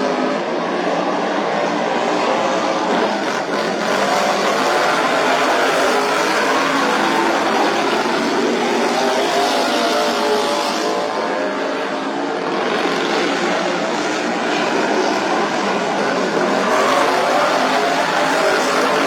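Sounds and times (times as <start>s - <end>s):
racing lawn mower engines: 0.0s - 19.0s.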